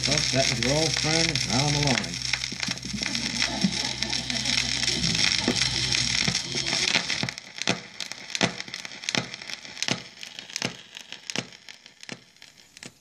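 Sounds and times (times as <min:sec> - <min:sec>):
faint crackle: 0:00.0 - 0:13.0
record click: 0:00.0 - 0:13.0
record surface hiss: 0:00.0 - 0:13.0.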